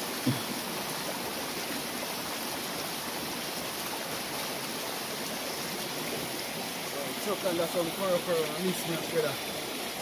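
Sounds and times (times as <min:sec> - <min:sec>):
stream water running: 0:00.0 - 0:10.0.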